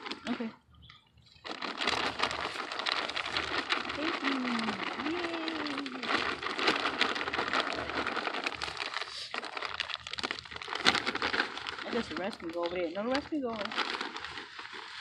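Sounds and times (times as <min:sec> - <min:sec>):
soil pouring from a bag: 0:01.4 - 0:15.0.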